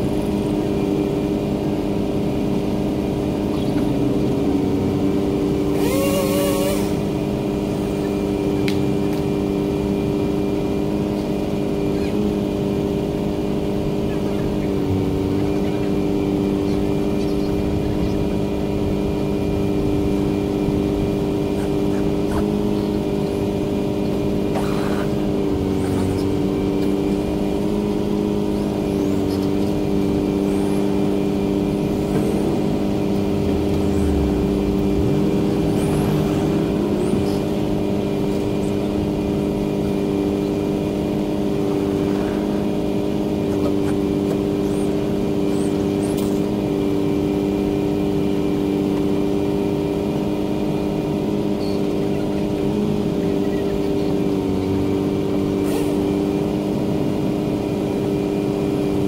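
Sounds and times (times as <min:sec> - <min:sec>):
truck engine humming: 0:00.0 - 0:59.0.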